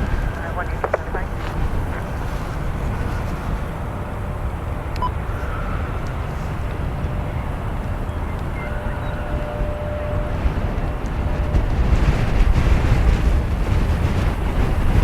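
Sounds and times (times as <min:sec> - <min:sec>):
distant jet aircraft rumble: 0:00.0 - 0:15.0.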